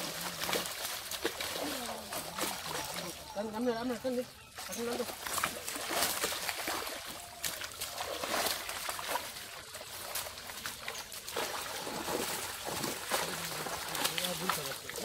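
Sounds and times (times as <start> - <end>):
fish thrashing in a net: 0.0 - 3.3, 4.7 - 15.0
water splashing and sloshing: 0.0 - 15.0.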